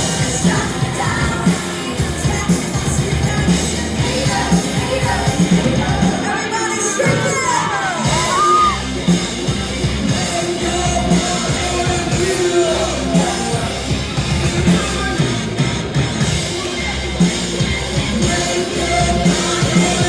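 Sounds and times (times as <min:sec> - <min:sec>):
person singing: 0:00.0 - 0:09.0, 0:10.0 - 0:15.4, 0:18.1 - 0:20.0
drum beat: 0:00.0 - 0:20.0
live rock band: 0:00.0 - 0:20.0.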